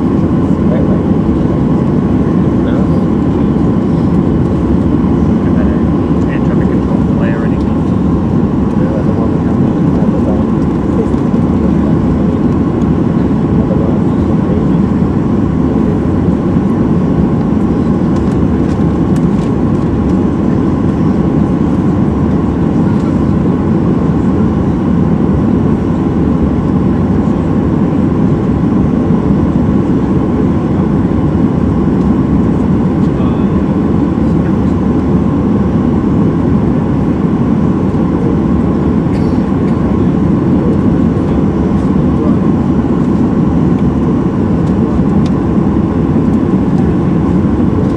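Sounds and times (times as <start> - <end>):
faint engine whine: 0.0 - 47.9
jet engine idling rumble: 0.0 - 47.9.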